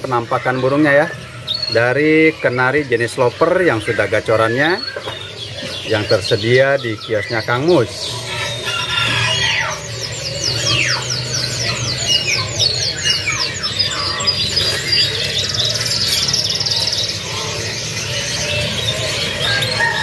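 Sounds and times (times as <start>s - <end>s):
canaries singing trills: 0.0s - 20.0s.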